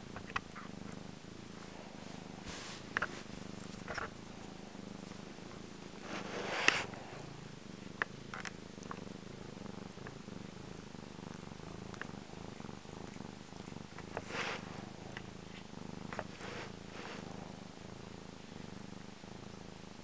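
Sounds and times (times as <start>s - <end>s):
cat purring loudly: 0.0s - 20.0s.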